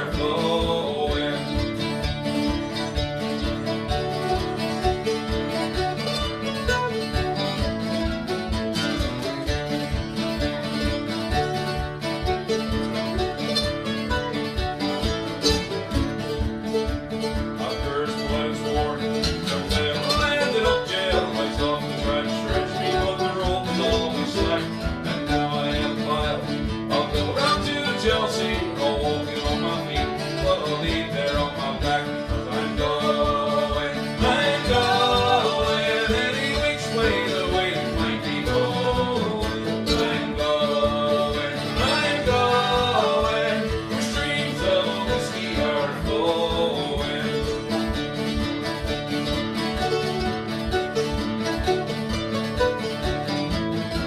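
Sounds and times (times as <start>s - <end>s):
band playing up-tempo folk song: 0.0s - 54.0s.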